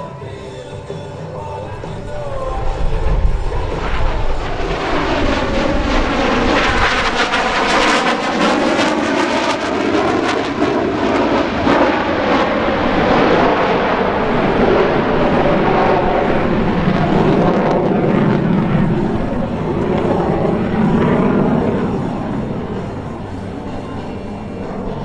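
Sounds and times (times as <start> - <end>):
jet aircraft passing: 0.0 - 25.0.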